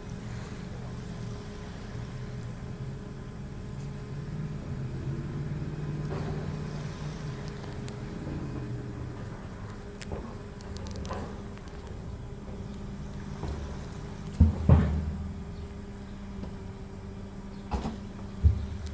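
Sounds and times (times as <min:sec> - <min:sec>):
low droning hum: 0:00.0 - 0:18.9.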